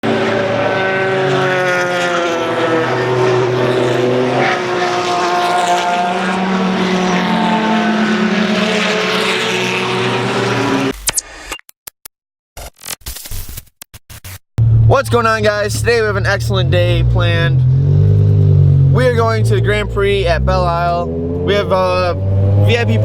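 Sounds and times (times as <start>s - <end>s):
race car engines at high revs: 0.0s - 10.9s, 14.6s - 23.0s.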